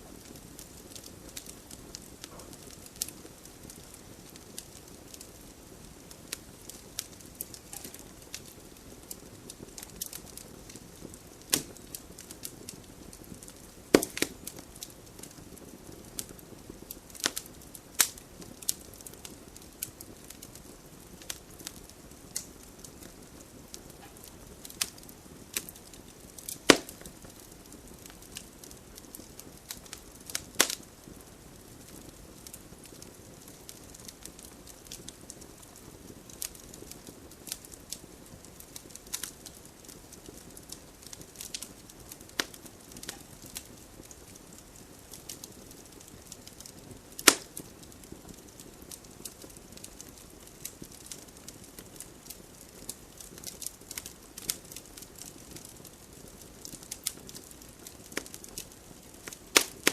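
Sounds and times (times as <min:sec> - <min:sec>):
campfire crackles and pops: 0:00.0 - 0:59.9
campfire hissing: 0:00.0 - 0:59.9.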